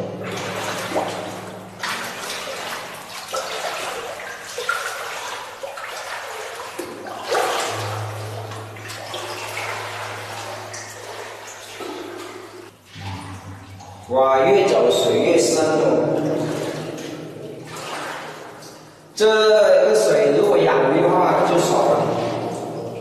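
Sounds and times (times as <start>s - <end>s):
footsteps wading through water: 0.0s - 19.2s, 21.4s - 23.0s.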